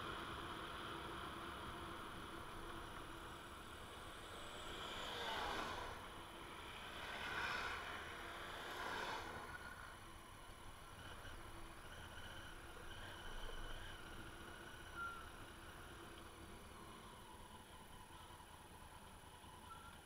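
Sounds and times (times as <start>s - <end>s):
motorcycle riding noise: 0.1s - 20.0s.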